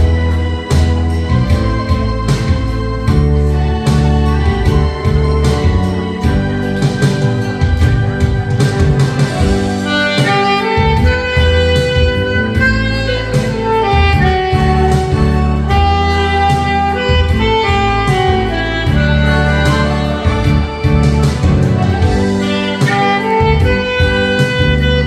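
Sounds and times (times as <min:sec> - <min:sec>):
alto saxophone melody: 0:00.0 - 0:25.0
steady drum beat: 0:00.0 - 0:25.0.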